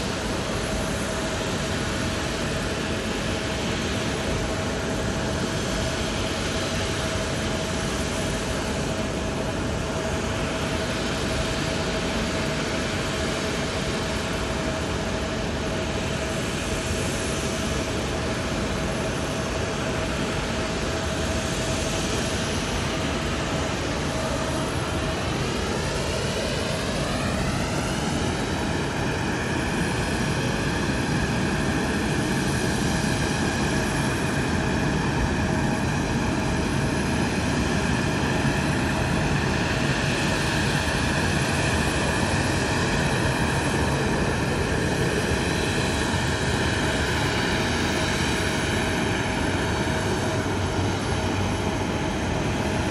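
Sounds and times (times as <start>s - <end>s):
jet engine whine: 0.0s - 52.9s
jet engines roaring: 0.0s - 52.9s.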